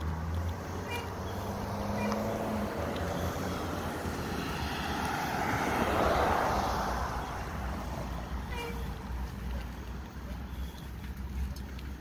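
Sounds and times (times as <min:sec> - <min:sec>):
bicycle tyres rumbling: 0:00.0 - 0:12.0
passing vehicle: 0:00.0 - 0:12.0.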